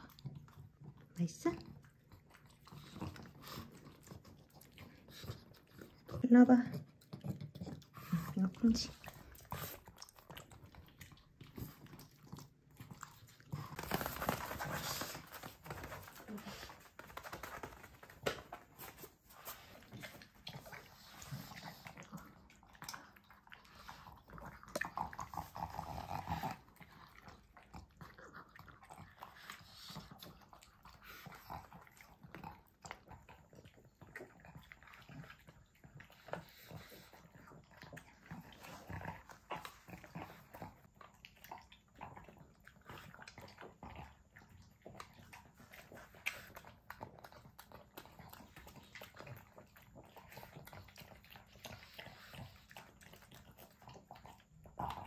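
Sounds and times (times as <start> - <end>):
dogs chewing wetly: 0.0 - 55.0
dogs licking: 0.0 - 55.0.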